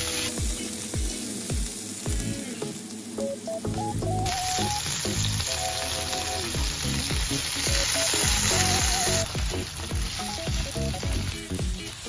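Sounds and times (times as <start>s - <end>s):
light background music: 0.0s - 12.0s
meat sizzling in hot oil: 0.0s - 12.0s.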